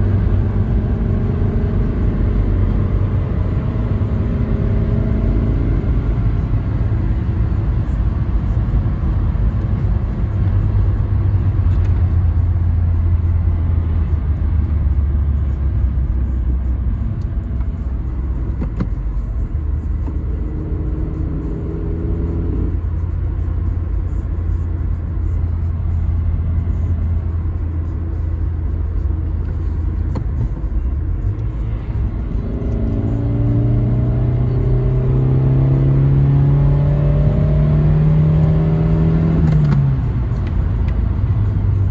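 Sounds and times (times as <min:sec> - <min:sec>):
car engine running: 0:00.0 - 0:41.9
low road rumble: 0:00.0 - 0:41.9.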